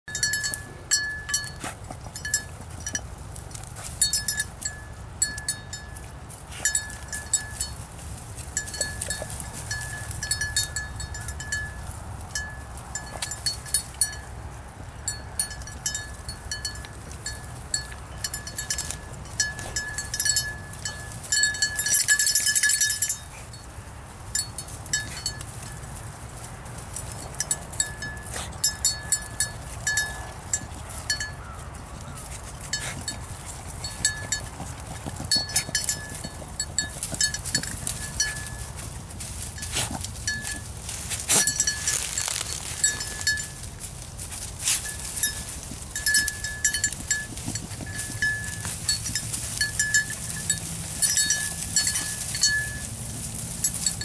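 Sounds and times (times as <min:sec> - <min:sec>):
dog collar bell jingling: 0:00.1 - 0:03.1, 0:03.8 - 0:07.9, 0:08.5 - 0:14.3, 0:15.0 - 0:23.7, 0:26.9 - 0:43.7, 0:44.6 - 0:54.0.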